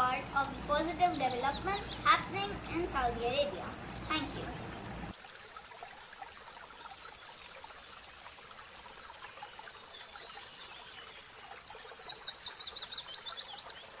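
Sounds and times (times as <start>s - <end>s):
faint trickling stream: 0.0s - 14.0s.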